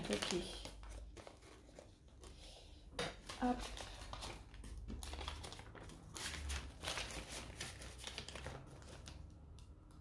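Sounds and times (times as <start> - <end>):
paper rustling and crinkling: 0.0 - 9.3.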